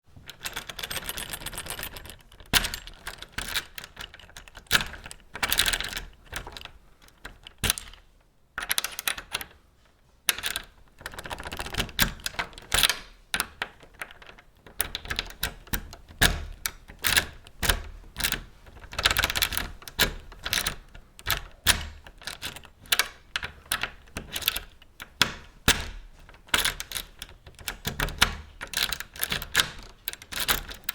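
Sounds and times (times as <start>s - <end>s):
key clicking in a door lock: 0.3s - 8.0s, 10.3s - 30.9s.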